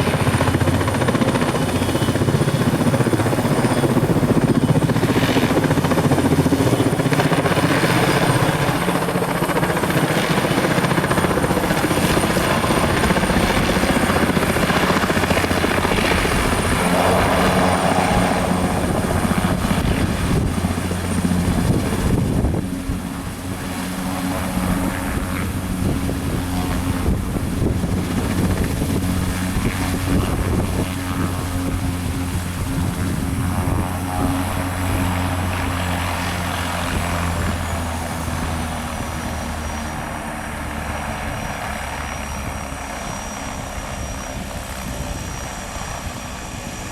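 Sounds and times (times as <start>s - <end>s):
helicopter turbine and rotor: 0.0s - 46.9s.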